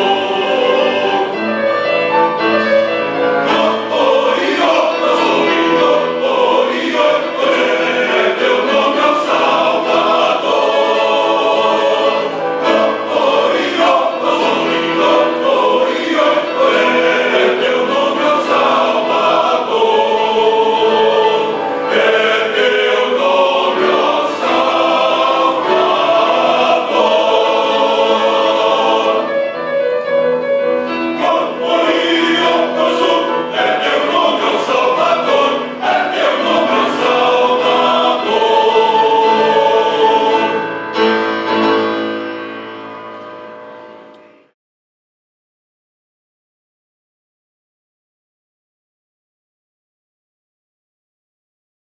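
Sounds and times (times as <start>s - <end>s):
choir singing a hymn: 0.0s - 42.6s.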